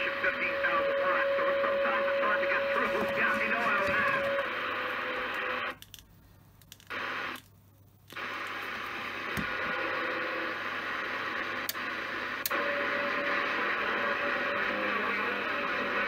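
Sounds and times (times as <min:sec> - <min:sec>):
radio receiver static hiss: 0:00.0 - 0:16.0.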